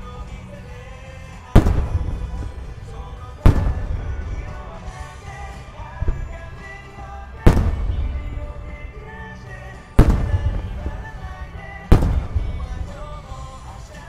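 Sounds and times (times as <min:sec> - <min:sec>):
recorded music: 0:00.0 - 0:14.0
rumbling echo: 0:00.0 - 0:14.0
firework bursts with loud bangs: 0:01.3 - 0:14.0.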